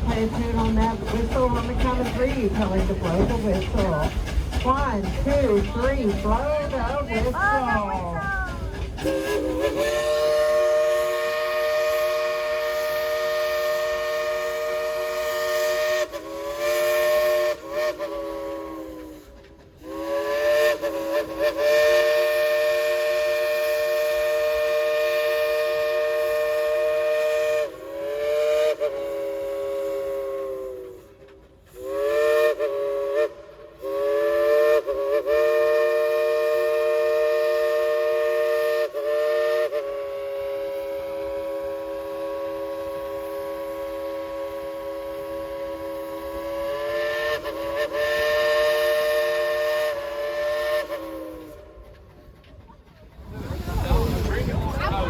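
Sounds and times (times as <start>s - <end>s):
steam locomotive chime whistle: 0.0s - 52.4s.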